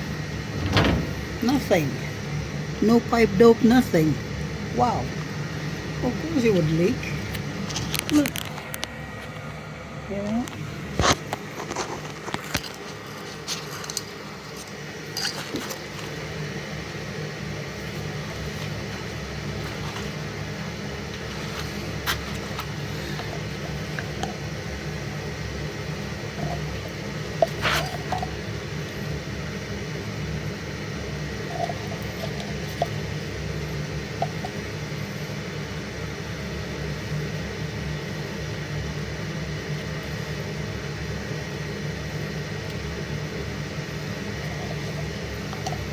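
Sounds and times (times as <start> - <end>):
furnace humming: 0.0 - 45.9.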